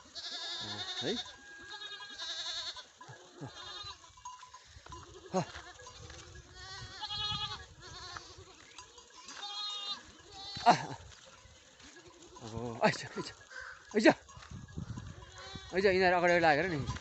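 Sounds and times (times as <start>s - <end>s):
goats bleating: 0.0s - 17.0s.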